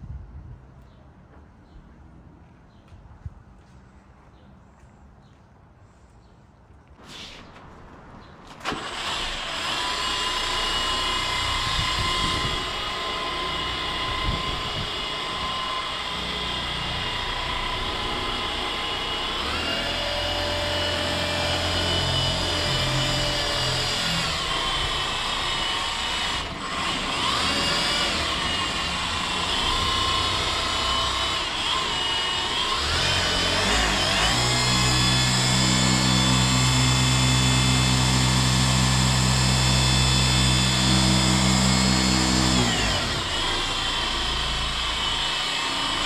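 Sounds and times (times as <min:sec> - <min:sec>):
car polisher whine: 0:08.6 - 0:46.0.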